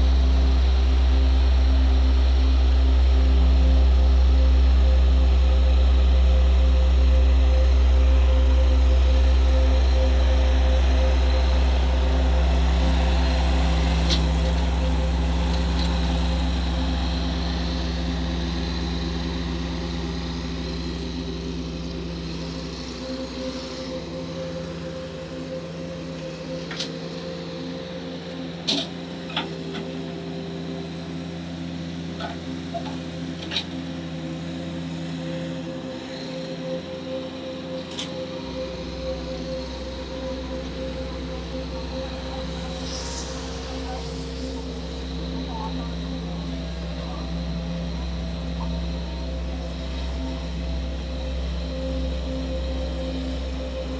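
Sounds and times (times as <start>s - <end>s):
motor rumbling: 0.0s - 53.9s.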